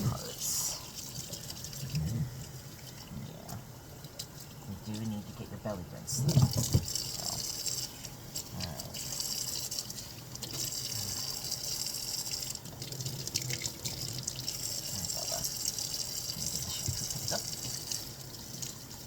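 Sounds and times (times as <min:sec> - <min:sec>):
tap water running and splashing: 0:00.0 - 0:19.0.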